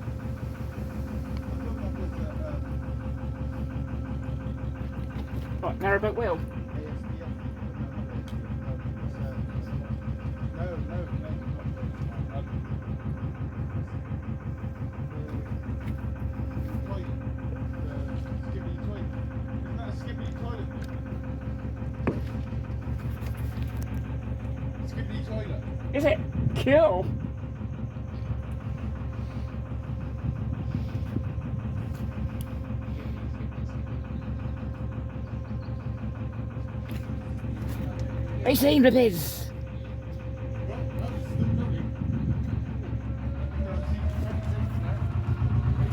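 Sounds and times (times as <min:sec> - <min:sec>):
boat engine chugging: 0:00.0 - 0:45.9.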